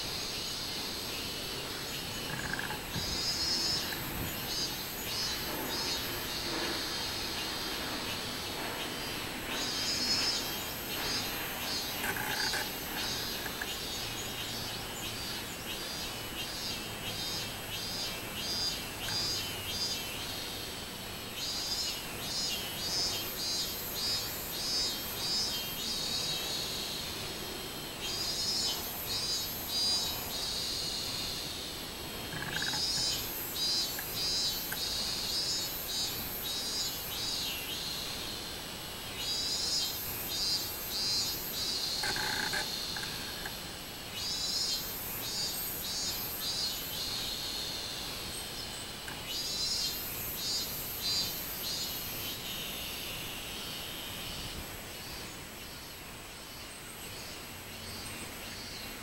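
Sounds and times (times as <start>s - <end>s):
cicadas singing: 0.0s - 59.0s.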